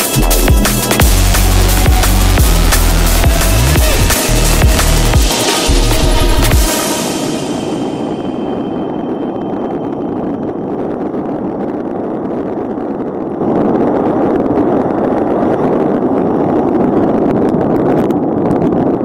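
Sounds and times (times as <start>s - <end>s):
rushing wind: 0.0s - 19.0s.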